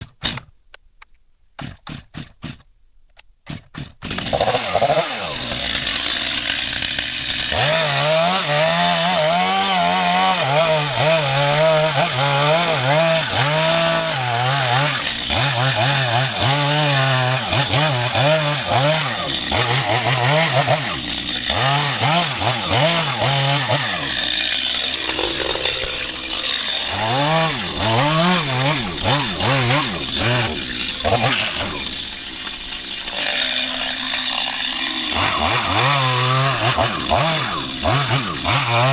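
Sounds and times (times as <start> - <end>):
chainsaw revving while sawing: 4.0 - 38.9.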